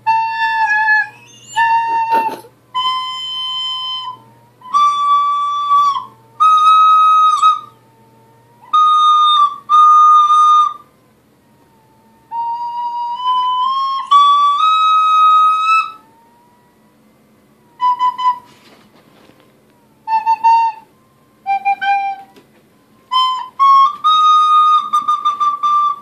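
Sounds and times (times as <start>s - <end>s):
recorder playing high notes: 0.0s - 10.9s, 12.1s - 16.7s, 17.6s - 18.8s, 20.0s - 22.4s, 23.1s - 26.0s.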